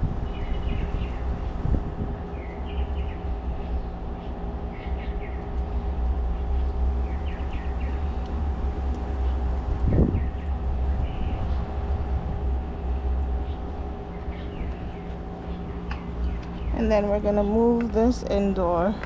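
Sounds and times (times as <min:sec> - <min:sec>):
birds chirping: 0:00.0 - 0:19.0
engine humming: 0:00.0 - 0:19.0.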